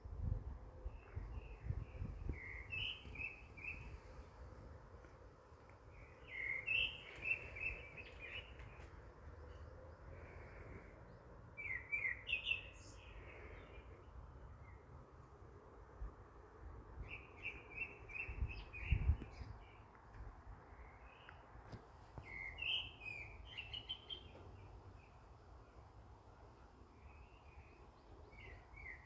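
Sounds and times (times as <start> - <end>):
songbirds chirping: 0.2 - 29.0.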